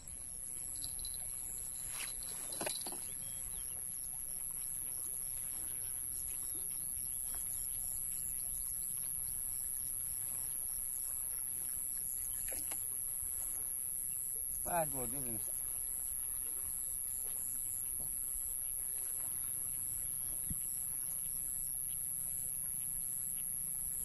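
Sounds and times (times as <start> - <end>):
flowing stream: 0.0 - 21.2.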